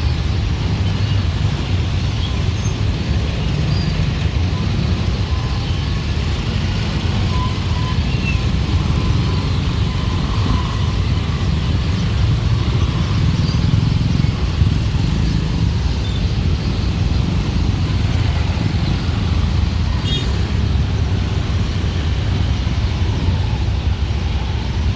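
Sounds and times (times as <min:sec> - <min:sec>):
cars passing: 0:00.0 - 0:24.9
motorbikes passing: 0:00.0 - 0:24.9.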